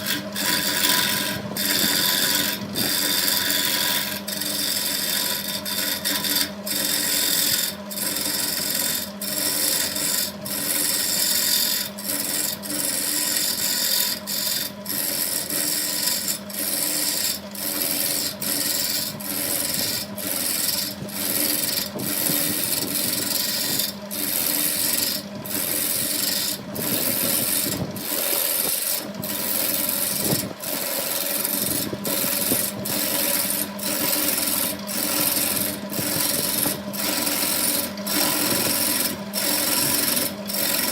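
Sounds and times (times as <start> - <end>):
tool rasping against wood: 0.0 - 40.9
wood lathe humming: 0.0 - 40.9.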